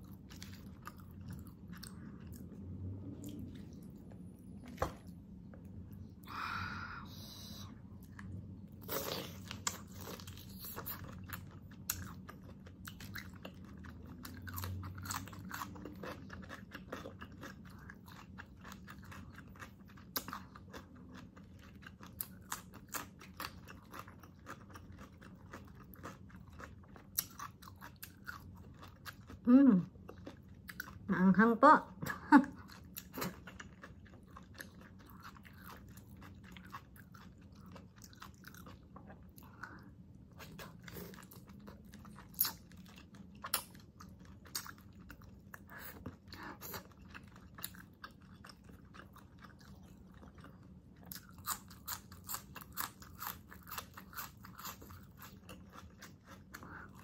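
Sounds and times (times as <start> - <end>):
chewing food: 0.0 - 6.2, 7.8 - 31.1, 32.5 - 57.0.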